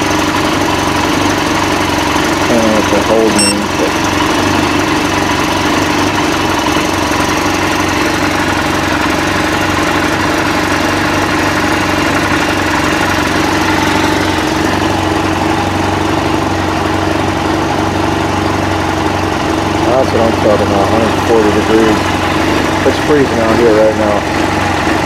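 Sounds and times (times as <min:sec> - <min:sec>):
snowmobile engine idling: 0:00.0 - 0:25.0.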